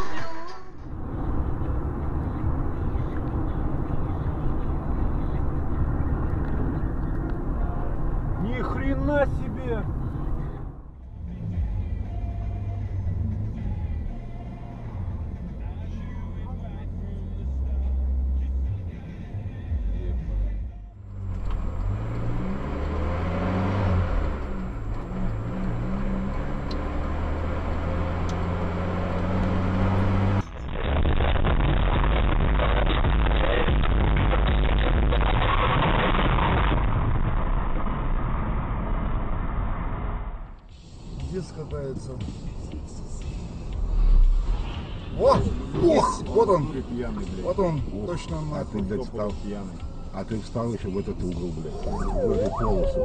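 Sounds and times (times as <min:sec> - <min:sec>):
car cabin road and engine noise: 0:00.0 - 0:53.0.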